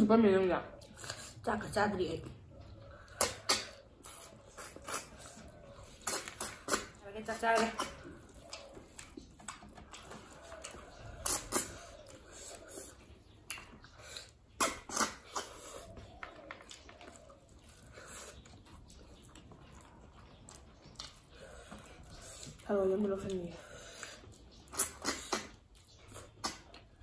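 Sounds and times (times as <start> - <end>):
chewing: 0.7 - 27.0
wet slurping: 3.0 - 16.2, 16.8 - 27.0.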